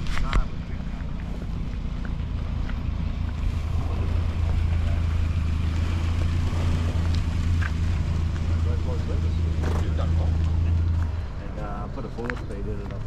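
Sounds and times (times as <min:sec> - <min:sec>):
engine idling low rumble: 0:00.0 - 0:13.0.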